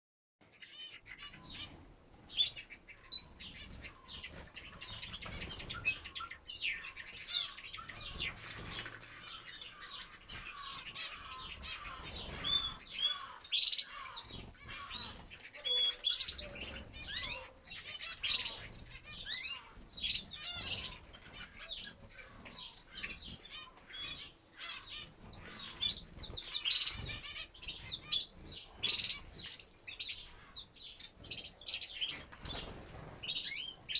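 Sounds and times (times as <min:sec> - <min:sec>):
canaries chirping and twittering: 0:00.4 - 0:33.9
wings fluttering: 0:01.3 - 0:29.6, 0:32.0 - 0:33.9.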